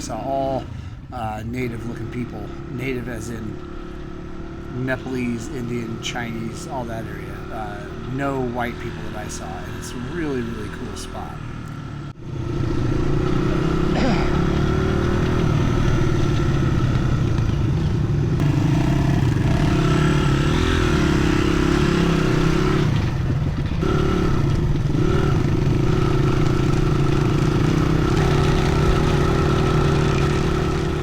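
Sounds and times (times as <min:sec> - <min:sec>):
dirt bike engine running: 0:01.7 - 0:31.0.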